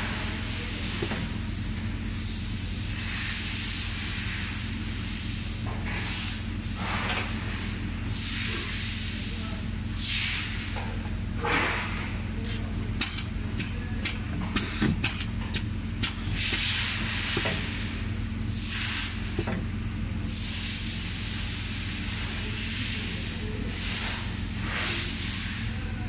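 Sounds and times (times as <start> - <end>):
steady machine hum: 0.0 - 26.0
compressed air hissing bursts: 0.1 - 25.7.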